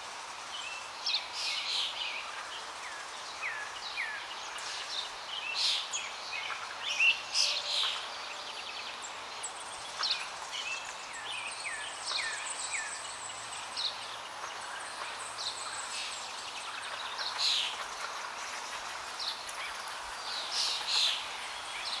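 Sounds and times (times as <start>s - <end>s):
steady background hiss: 0.0s - 22.0s
small birds chirping: 0.4s - 22.0s.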